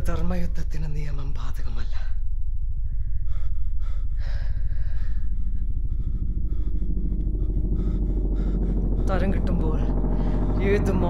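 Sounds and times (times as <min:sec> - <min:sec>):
steady deep rumble: 0:00.0 - 0:11.0.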